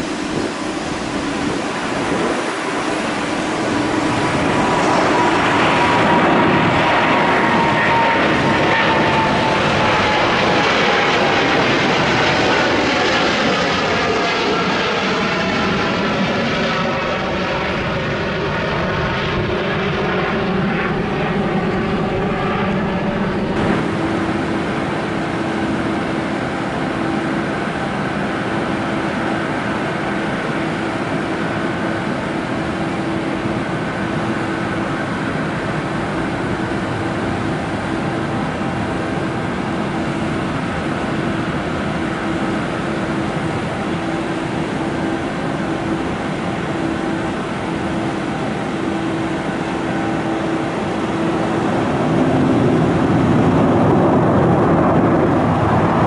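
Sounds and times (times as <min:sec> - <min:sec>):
jet engine noise on runway: 0:00.0 - 0:56.0
jet engines whining overhead: 0:00.0 - 0:56.0.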